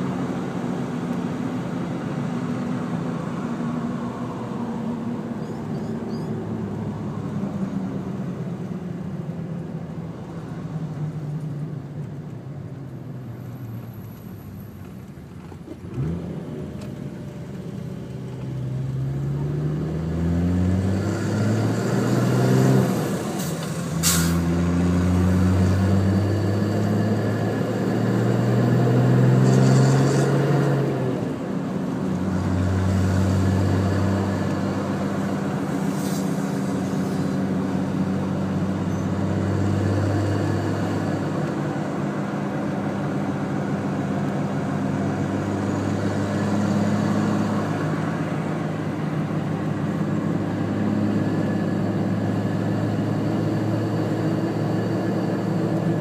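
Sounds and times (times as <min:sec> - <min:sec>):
diesel engine drone: 0:00.0 - 0:56.0.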